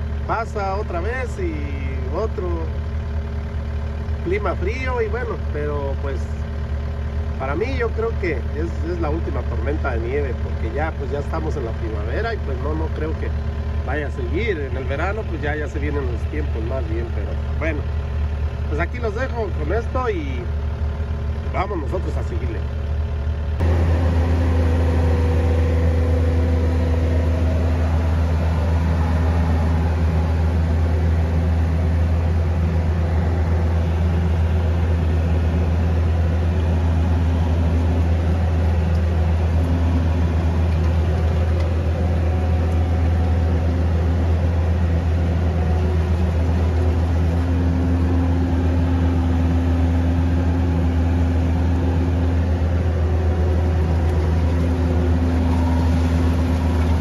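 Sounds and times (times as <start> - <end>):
machine engine humming: 0.0 - 57.0.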